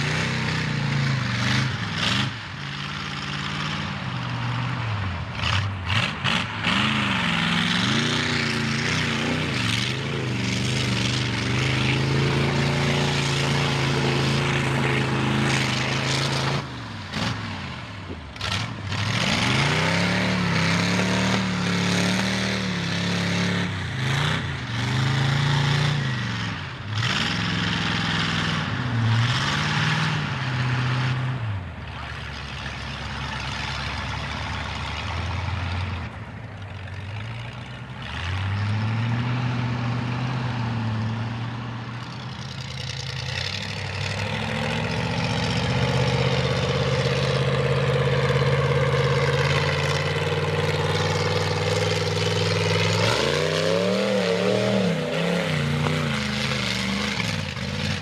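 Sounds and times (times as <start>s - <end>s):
truck engine revving hard: 0.0s - 36.2s, 37.0s - 58.0s.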